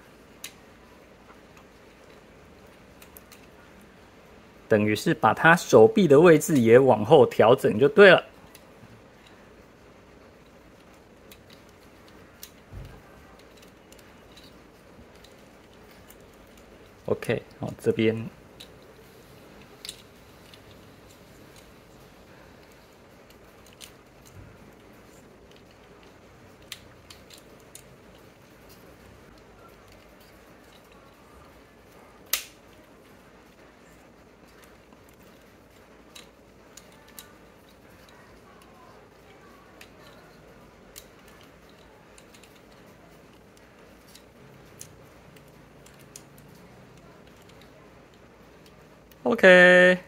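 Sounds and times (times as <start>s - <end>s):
plastic toy parts clicking: 0.3s - 4.0s, 5.3s - 49.8s.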